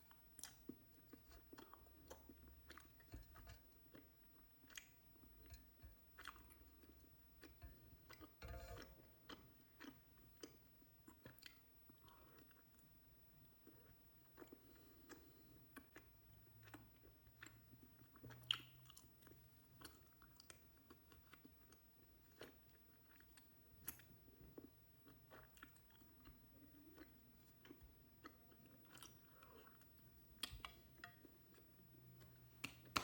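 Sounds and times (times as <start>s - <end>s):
person chewing: 0.1s - 12.9s, 13.6s - 33.0s.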